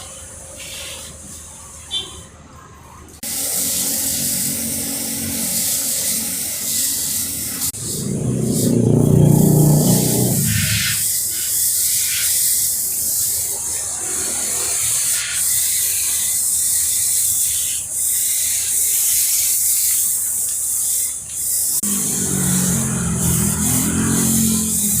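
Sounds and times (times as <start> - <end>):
cleaning spray hissing: 0.0 - 2.0, 3.2 - 25.0.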